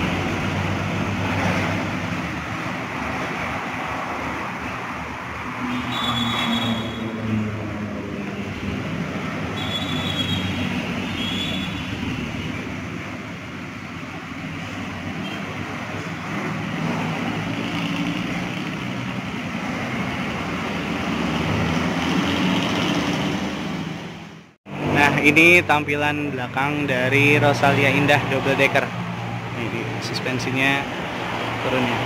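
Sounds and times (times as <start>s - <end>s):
road traffic noise: 0.0s - 32.0s.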